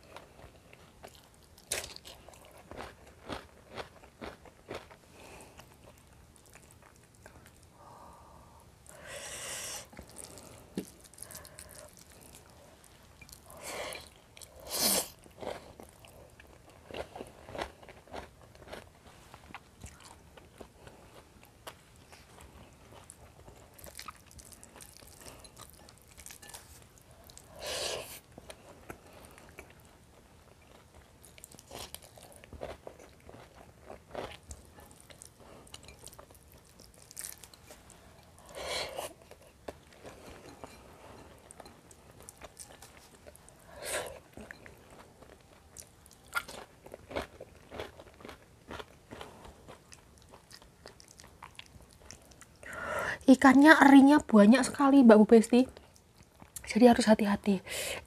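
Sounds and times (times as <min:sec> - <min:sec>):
chewing and mouth sounds: 0:00.0 - 0:07.7, 0:09.8 - 0:52.7, 0:55.8 - 0:56.7.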